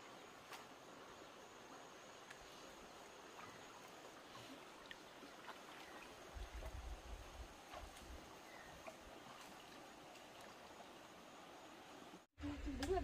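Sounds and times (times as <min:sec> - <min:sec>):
floodwater flowing and lapping: 0:00.0 - 0:12.3.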